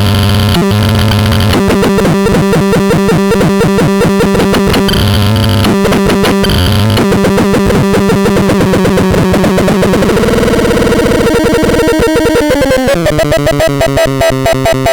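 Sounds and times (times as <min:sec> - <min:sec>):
electronic droning tones: 0:00.0 - 0:14.9
harsh electronic stuttering pulse: 0:00.0 - 0:14.9.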